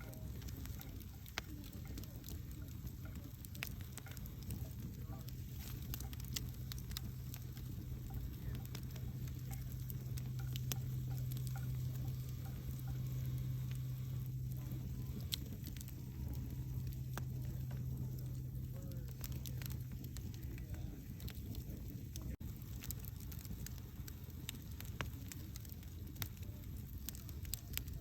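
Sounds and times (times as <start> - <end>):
fire hissing: 0.0 - 28.0
steady low hum: 0.0 - 28.0
wood crackling and popping: 0.0 - 28.0.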